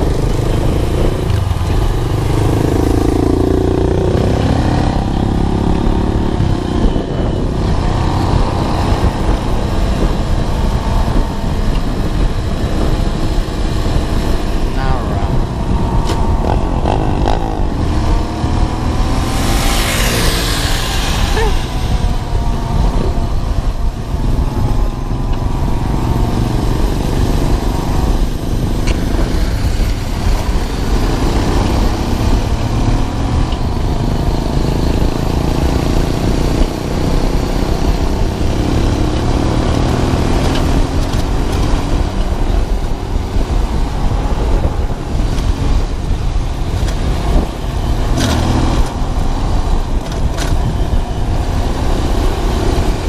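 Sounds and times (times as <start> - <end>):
motorcycle engine running: 0.0 - 53.0
wind rumble on microphone: 0.0 - 53.0.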